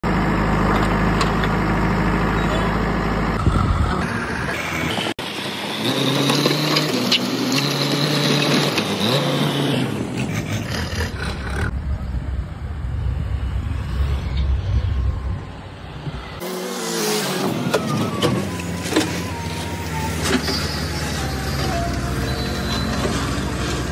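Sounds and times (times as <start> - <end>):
diesel engine running under load: 0.0 - 23.9.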